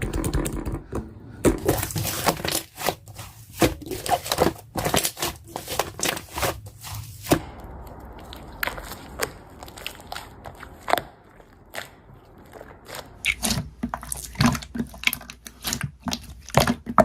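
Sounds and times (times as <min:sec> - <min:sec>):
slime squished by hand: 0:01.6 - 0:17.0.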